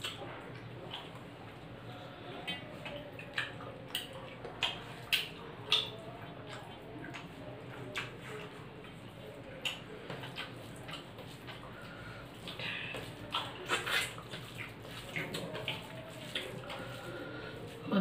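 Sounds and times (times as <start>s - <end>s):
chewing: 0.0s - 18.0s.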